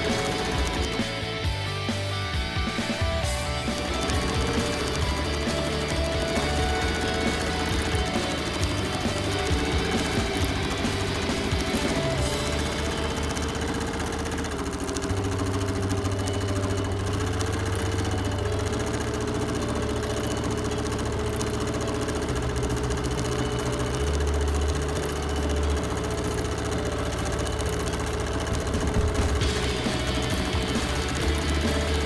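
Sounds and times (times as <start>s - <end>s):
motor hum: 0.0s - 32.0s
quilting machine stitching: 0.0s - 32.0s.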